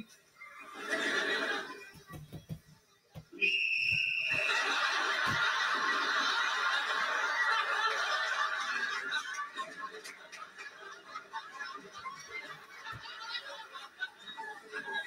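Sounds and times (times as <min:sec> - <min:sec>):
studio audience laughing: 0:00.4 - 0:02.0, 0:04.2 - 0:15.0.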